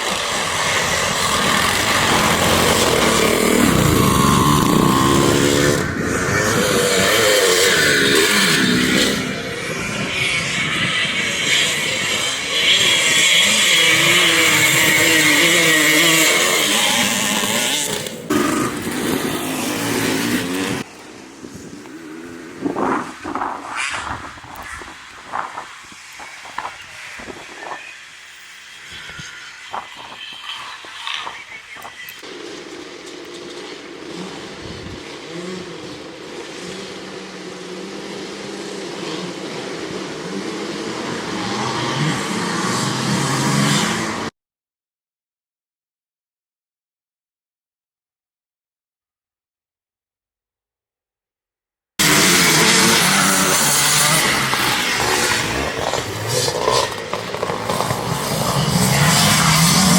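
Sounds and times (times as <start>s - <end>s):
motocross bikes racing: 0.0s - 44.3s, 52.0s - 59.9s.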